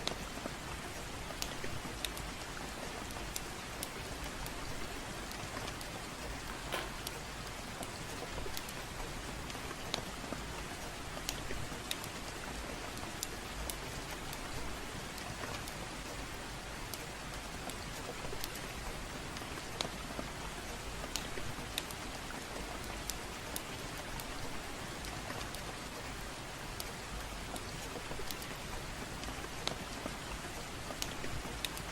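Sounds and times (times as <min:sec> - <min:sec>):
gentle rain: 0:00.0 - 0:31.9
wood fire crackling: 0:00.0 - 0:31.9.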